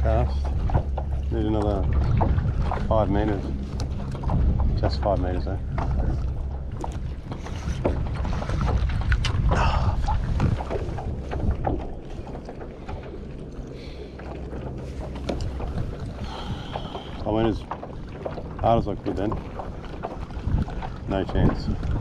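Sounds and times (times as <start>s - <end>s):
knocks and clicks from boat: 0.0s - 22.0s
wind buffeting microphone: 0.0s - 22.0s.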